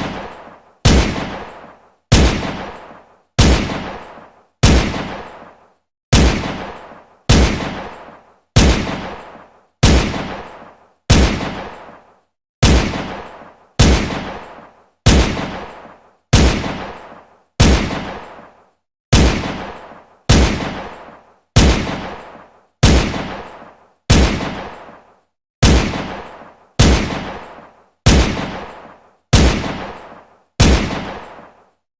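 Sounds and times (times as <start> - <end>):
pistol shots echoing: 0.0 - 12.0, 12.6 - 18.5, 19.1 - 25.0, 25.6 - 31.6.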